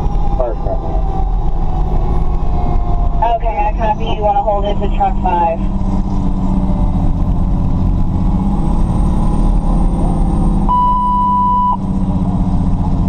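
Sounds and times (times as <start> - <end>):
diesel truck engine: 0.0 - 13.0
road noise: 0.0 - 13.0.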